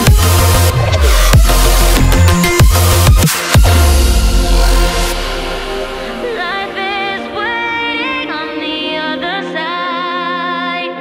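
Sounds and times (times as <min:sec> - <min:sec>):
electronic music with heavy bass: 0:00.0 - 0:09.0.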